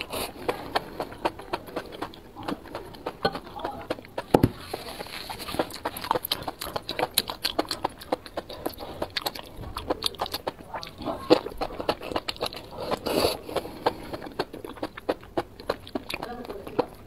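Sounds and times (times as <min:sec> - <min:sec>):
slurping: 0:00.0 - 0:17.0
wet chewing and smacking: 0:00.0 - 0:17.0.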